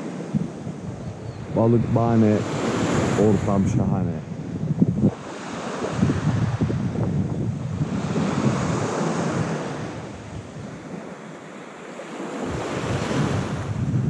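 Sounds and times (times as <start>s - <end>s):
wind buffeting microphone: 0.0s - 11.2s, 12.2s - 14.0s
surf washing onto beach: 0.0s - 14.0s.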